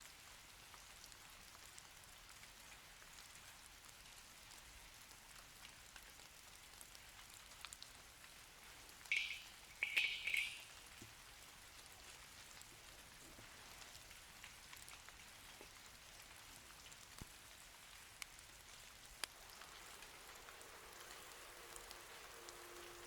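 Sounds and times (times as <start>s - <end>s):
light rain falling: 0.0s - 23.0s
raindrops ticking: 0.6s - 23.0s.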